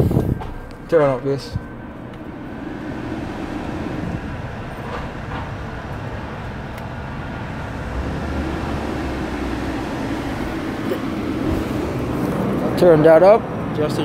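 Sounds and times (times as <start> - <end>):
blower fan rushing air: 0.0 - 14.0.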